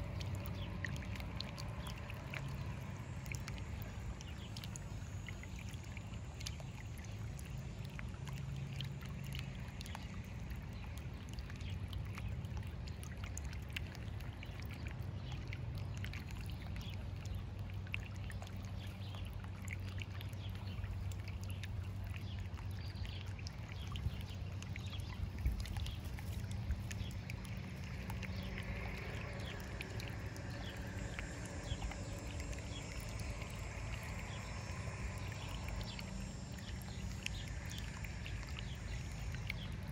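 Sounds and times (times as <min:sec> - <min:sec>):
fountain bubbling and trickling: 0:00.0 - 0:39.9
low steady hum: 0:00.0 - 0:39.9.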